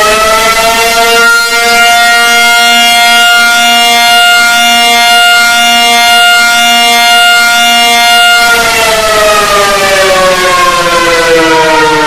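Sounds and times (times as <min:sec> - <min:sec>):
emergency alert siren wailing: 0:00.0 - 0:12.0.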